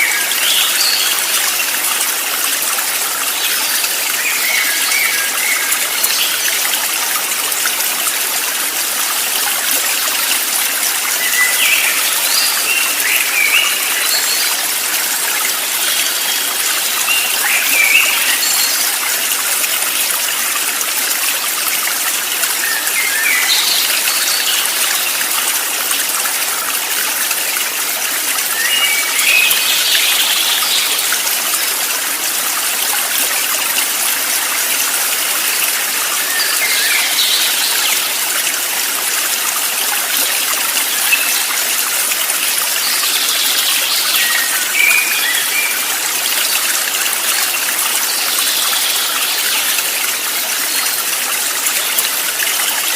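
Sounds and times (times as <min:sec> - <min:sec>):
stream water trickling: 0:00.0 - 0:52.9.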